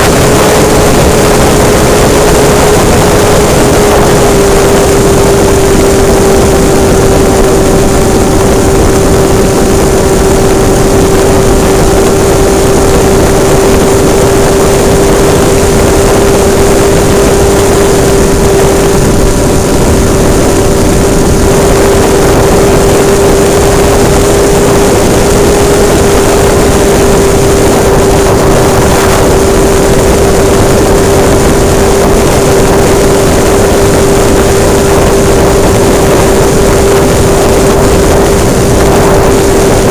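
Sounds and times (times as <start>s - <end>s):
model airplane engine high buzz: 0.0s - 39.9s
rushing wind noise: 0.0s - 39.9s.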